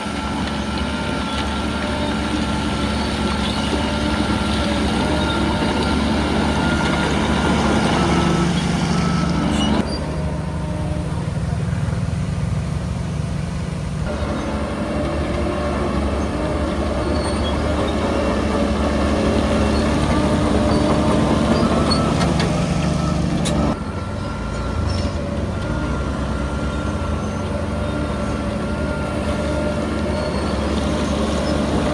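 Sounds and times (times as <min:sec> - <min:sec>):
diesel engine of heavy machinery: 0:00.0 - 0:31.9.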